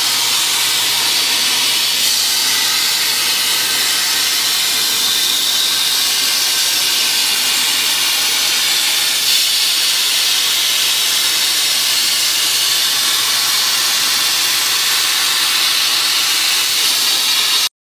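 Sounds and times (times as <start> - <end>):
plasma torch hissing: 0.0 - 17.7.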